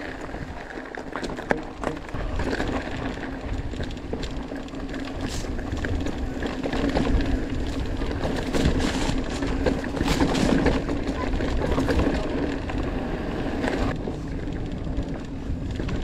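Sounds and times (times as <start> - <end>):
bike rattling: 0.0 - 16.0
bike tyres on loose ground: 0.0 - 16.0
wind buffeting microphone: 0.0 - 16.0.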